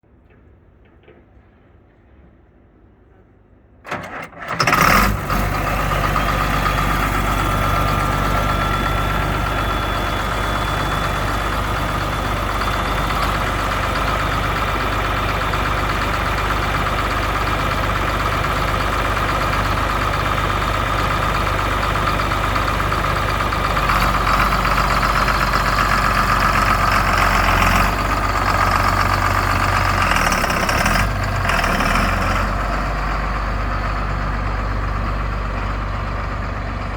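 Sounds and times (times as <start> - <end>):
diesel engine cranking and idling: 3.9 - 36.9.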